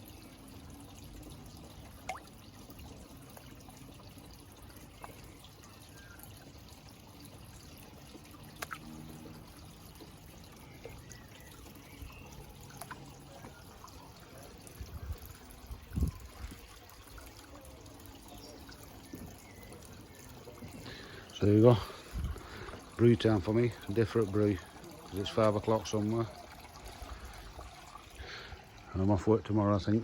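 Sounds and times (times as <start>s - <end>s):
water pouring into pond: 0.0s - 29.4s.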